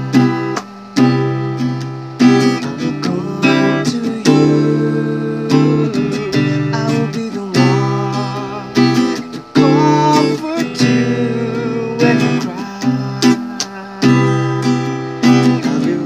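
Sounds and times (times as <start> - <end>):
strummed acoustic guitar: 0.0 - 16.0
man singing: 2.6 - 16.0.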